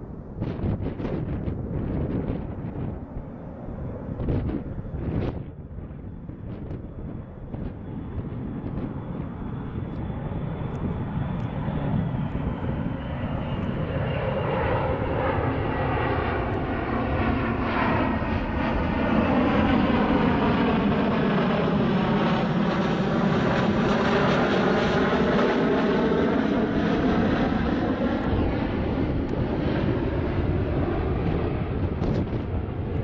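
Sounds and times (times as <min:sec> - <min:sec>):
jet aircraft passing overhead: 0:00.0 - 0:33.0.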